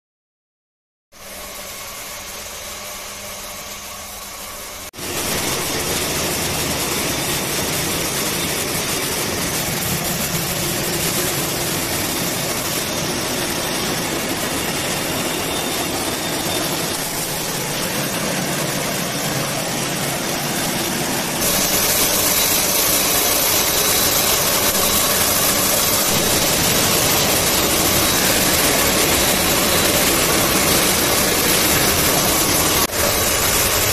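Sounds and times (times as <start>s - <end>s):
yarn spinning machines running: 1.2s - 33.9s.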